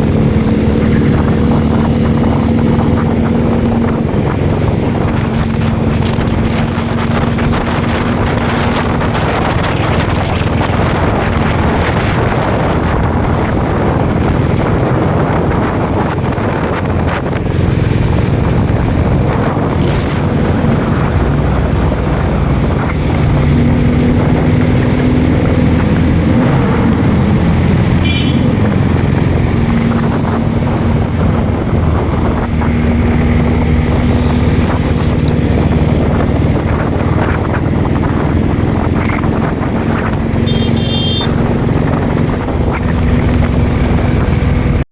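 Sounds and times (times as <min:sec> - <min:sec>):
motorcycle engine running: 0:00.0 - 0:44.8
wind buffeting microphone: 0:00.0 - 0:44.8.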